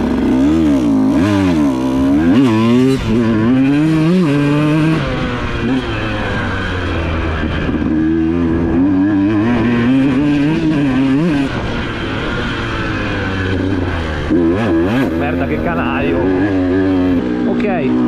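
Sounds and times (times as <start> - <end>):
motocross engine revving: 0.0 - 18.0.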